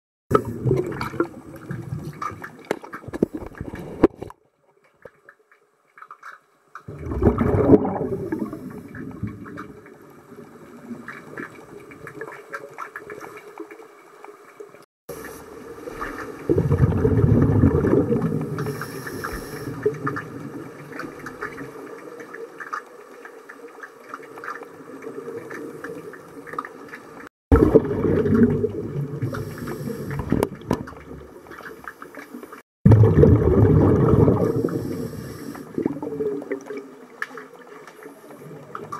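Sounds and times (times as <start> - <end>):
bubbling and gurgling of exhaled air: 0.3 - 4.6, 6.8 - 38.9.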